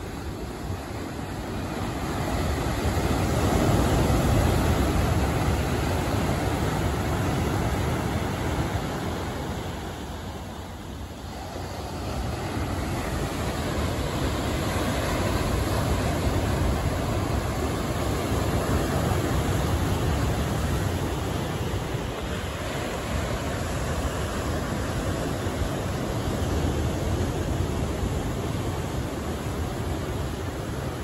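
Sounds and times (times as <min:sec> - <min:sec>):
ocean waves breaking: 0:00.0 - 0:31.0.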